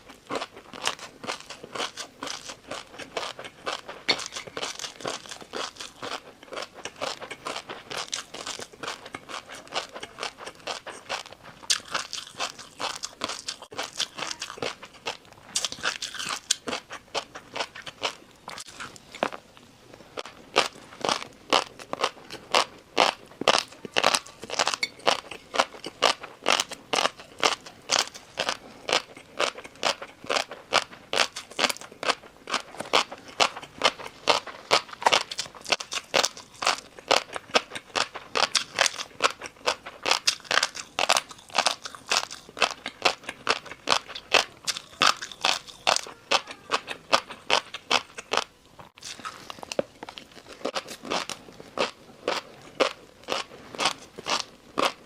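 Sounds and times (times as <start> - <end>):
chewing crunchy noodles: 0.0 - 55.0.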